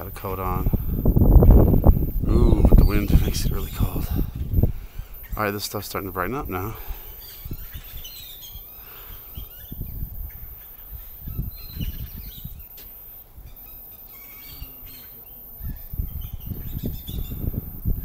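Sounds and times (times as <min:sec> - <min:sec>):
birds chirping: 0:00.0 - 0:18.0
wind buffeting microphone: 0:00.0 - 0:18.0.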